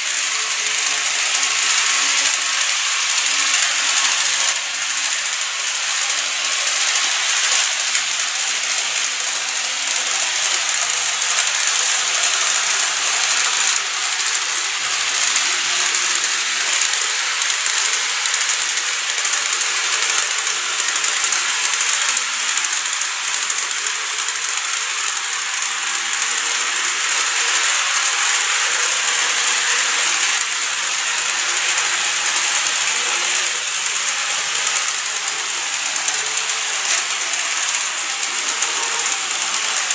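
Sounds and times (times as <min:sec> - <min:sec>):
model train running on track: 0:00.0 - 0:39.9.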